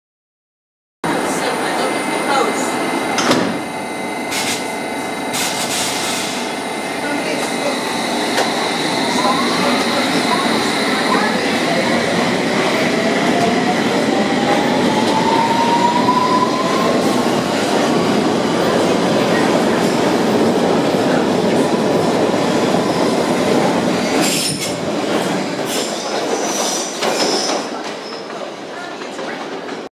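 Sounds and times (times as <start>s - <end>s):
rumble of train cars: 1.0s - 29.9s.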